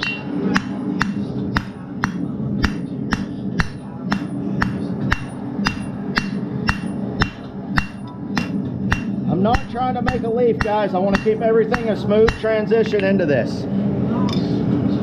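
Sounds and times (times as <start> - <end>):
hammer striking metal on anvil: 0.0 - 13.2.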